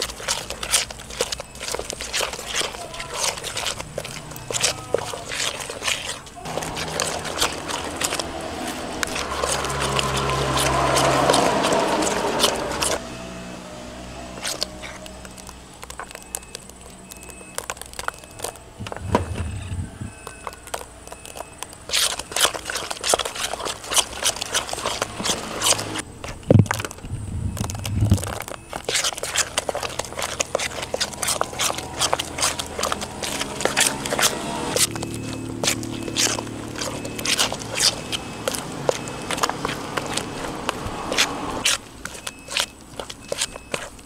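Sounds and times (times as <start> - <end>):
wet batter squishing and clicking: 0.0 - 13.0, 14.3 - 44.0.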